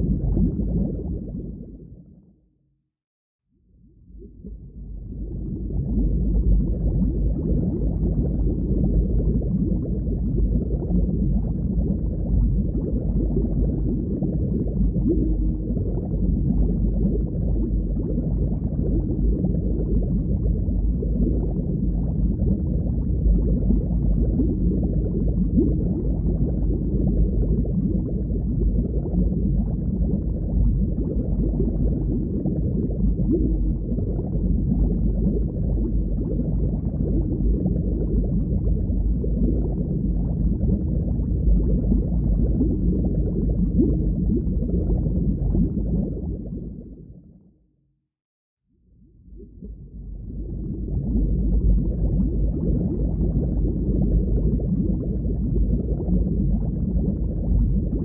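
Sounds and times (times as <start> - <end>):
muffled underwater rush: 0.0 - 2.4, 3.8 - 47.6, 48.9 - 58.0.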